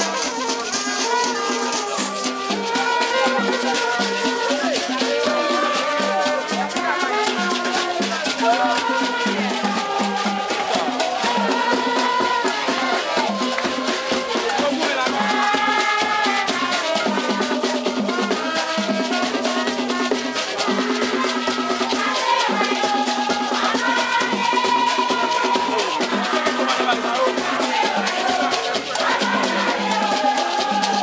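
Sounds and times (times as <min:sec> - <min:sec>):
drums: 0:00.0 - 0:31.0
shaken rattles: 0:00.0 - 0:31.0.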